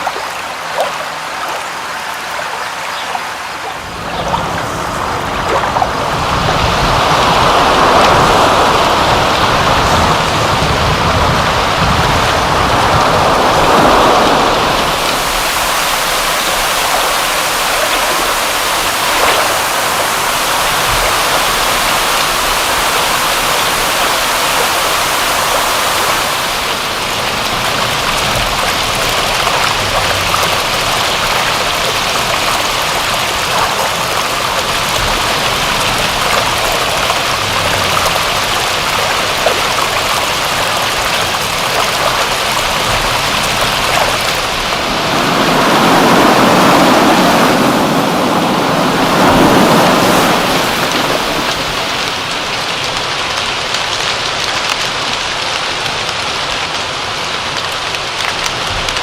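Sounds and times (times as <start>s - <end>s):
rain: 0.0s - 59.0s
running water: 0.0s - 59.0s.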